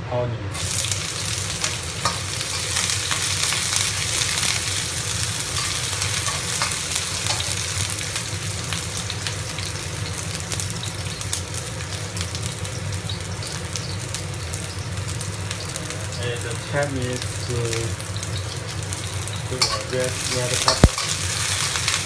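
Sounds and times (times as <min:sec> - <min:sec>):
food sizzling in hot oil: 0:00.5 - 0:22.0.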